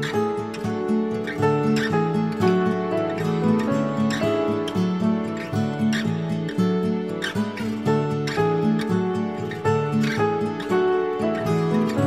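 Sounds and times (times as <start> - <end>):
plucked-string tune: 0.0 - 12.0.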